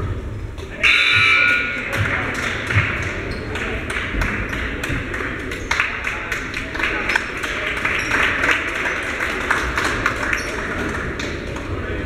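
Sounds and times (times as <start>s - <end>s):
overlapping voices chattering: 0.6s - 12.0s.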